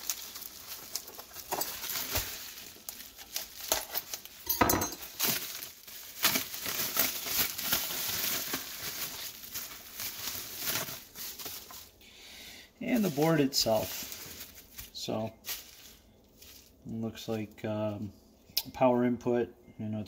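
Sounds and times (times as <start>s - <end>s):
bubble wrap crinkling: 0.0s - 12.0s, 12.7s - 18.1s.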